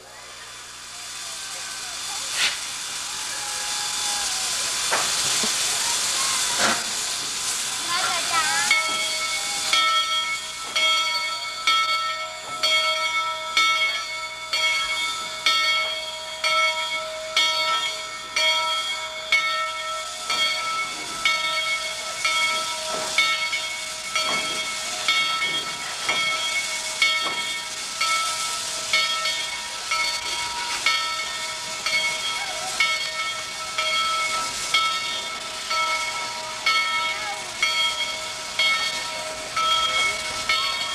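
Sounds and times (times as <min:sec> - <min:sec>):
steam hissing: 0:00.0 - 0:40.9
steam locomotive chuffing: 0:00.0 - 0:40.9.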